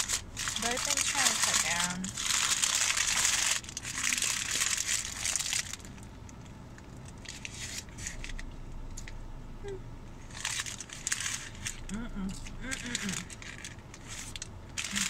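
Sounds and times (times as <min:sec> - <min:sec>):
paper wrapper crinkling: 0:00.0 - 0:06.1, 0:06.8 - 0:08.5, 0:10.3 - 0:15.0.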